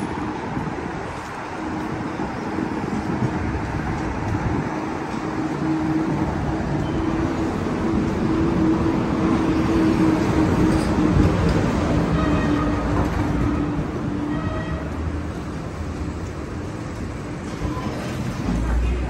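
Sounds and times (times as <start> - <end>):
subway train running: 0.0 - 19.0.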